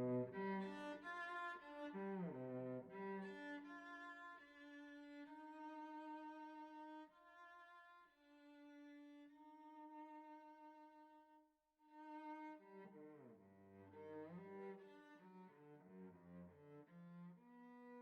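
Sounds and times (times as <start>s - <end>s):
faint bowed string music: 0.0s - 18.0s.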